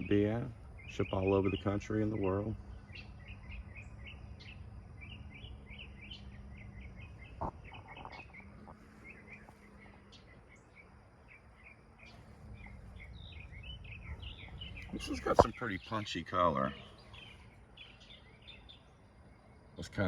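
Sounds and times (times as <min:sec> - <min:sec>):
birds chirping: 0:00.0 - 0:20.0
faint low hum: 0:00.0 - 0:20.0.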